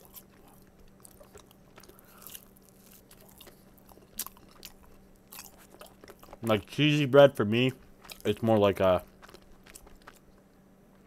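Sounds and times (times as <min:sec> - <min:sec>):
faint low hum: 0:00.0 - 0:11.0
person chewing bread: 0:00.0 - 0:11.0.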